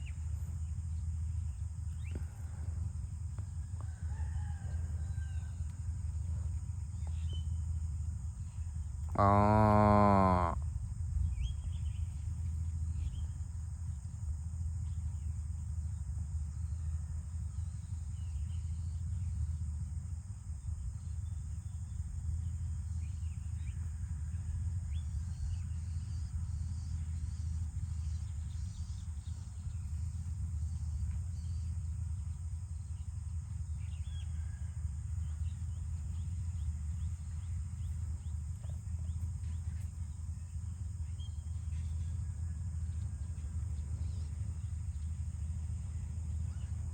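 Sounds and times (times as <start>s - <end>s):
constant low rumble: 0.0s - 46.9s
high drone of insects: 0.0s - 46.9s.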